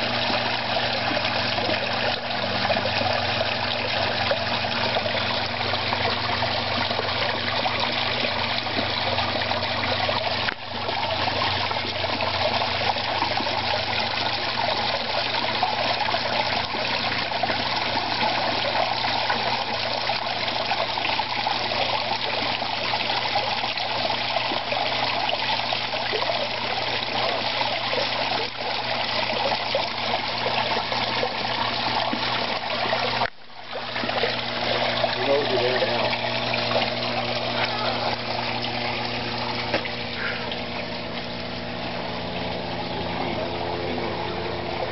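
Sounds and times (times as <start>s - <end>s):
low steady hum: 0.0s - 44.9s
water trickling into pond: 0.0s - 44.9s.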